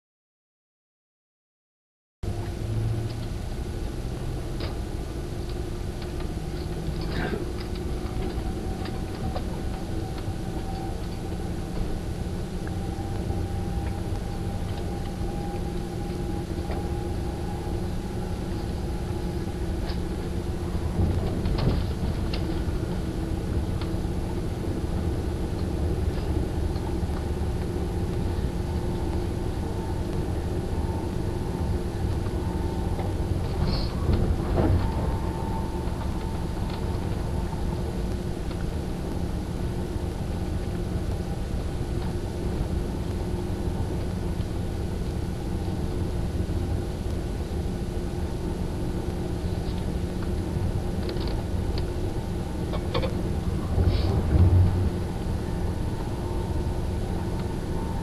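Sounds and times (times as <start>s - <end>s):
faint steady hum: 2.2s - 58.0s
train wheels rumbling on track: 2.2s - 58.0s.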